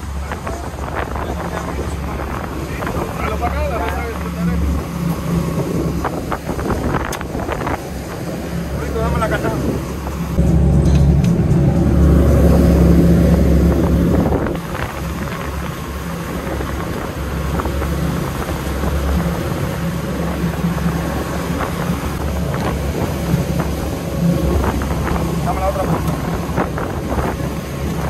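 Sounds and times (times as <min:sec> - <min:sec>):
outboard motor hum: 0:00.0 - 0:28.0
rushing wake water: 0:00.0 - 0:28.0
wind on microphone: 0:00.0 - 0:28.0.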